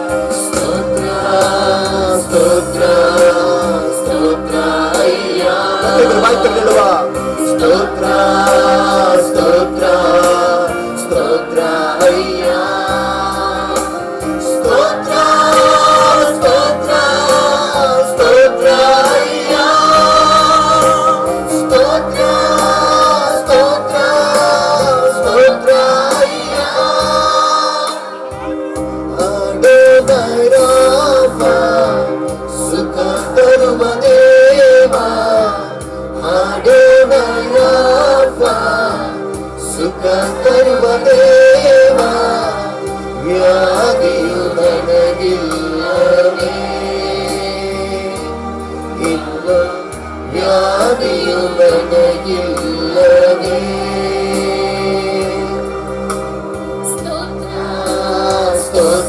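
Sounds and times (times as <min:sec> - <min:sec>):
band playing with beat: 0:00.0 - 0:59.0
group singing worship song: 0:00.0 - 0:59.0.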